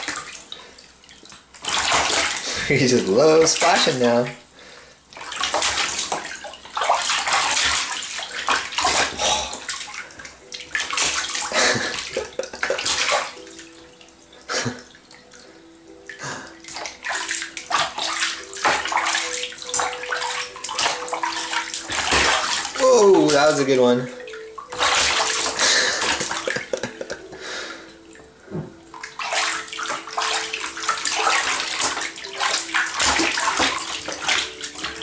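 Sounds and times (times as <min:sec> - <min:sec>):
baby splashing water: 0:00.0 - 0:04.4, 0:05.1 - 0:35.0.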